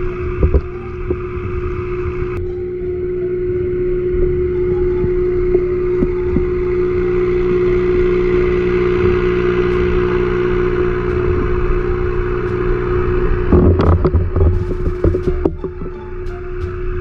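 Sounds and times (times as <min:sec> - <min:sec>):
underwater mechanical hum: 0:00.0 - 0:17.0.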